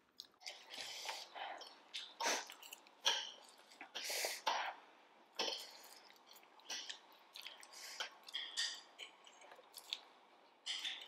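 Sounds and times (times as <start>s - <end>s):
chewing and slurping noodles: 0.0s - 4.8s, 5.4s - 11.0s.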